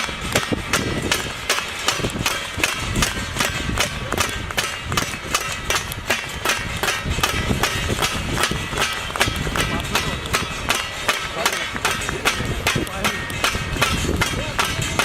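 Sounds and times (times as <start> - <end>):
drums beaten fast: 0.0 - 15.0.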